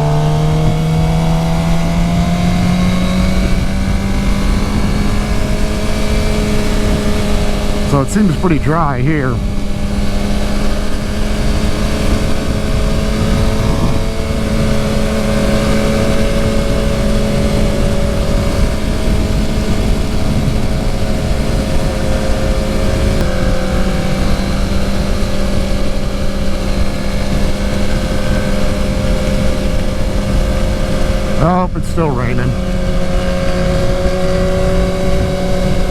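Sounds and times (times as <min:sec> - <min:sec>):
heavy wind noise: 0:00.0 - 0:35.9
motorcycle engine cruising: 0:00.0 - 0:35.9.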